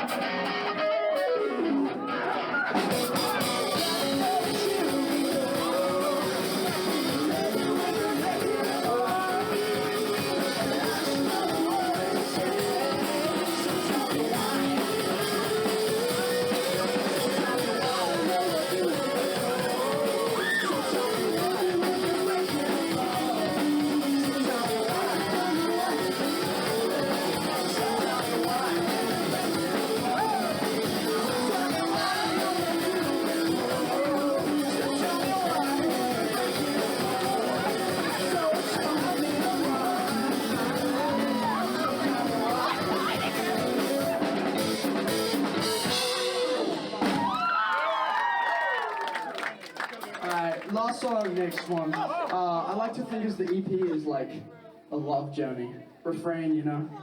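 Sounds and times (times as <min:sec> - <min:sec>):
live rock band playing: 0:00.0 - 0:47.6.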